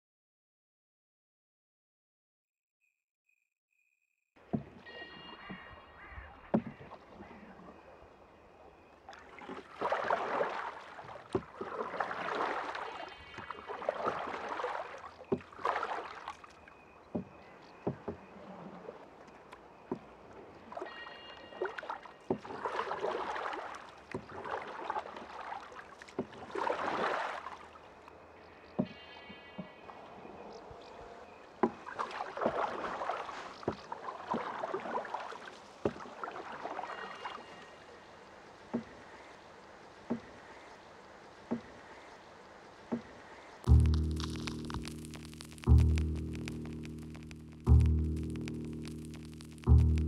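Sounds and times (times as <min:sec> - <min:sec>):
oars splashing in water: 0:04.4 - 0:50.0.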